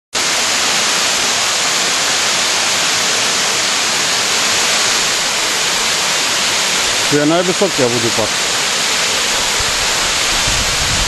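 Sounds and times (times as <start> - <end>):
waterfall rushing: 0.2 - 11.0.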